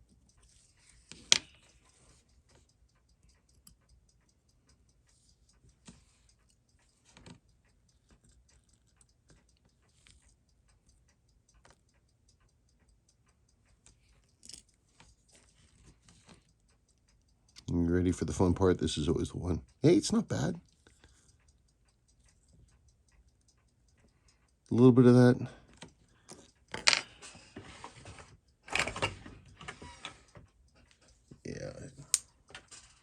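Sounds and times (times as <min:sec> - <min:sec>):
tweezers clicking on watch parts: 0:00.0 - 0:18.5, 0:19.8 - 0:27.6, 0:29.5 - 0:33.0.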